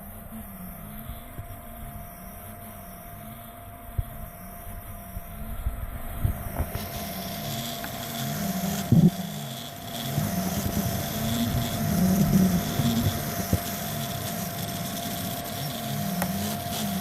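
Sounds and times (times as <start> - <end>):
steady hum: 0.0 - 17.0
stepper motors whining: 0.0 - 17.0.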